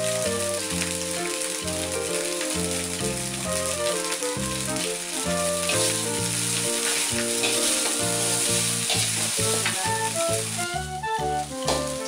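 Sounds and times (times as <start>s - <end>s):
background music with stepping bass: 0.0s - 12.0s
fried rice sizzling in a wok: 0.0s - 12.0s
spatula stirring: 0.6s - 10.7s.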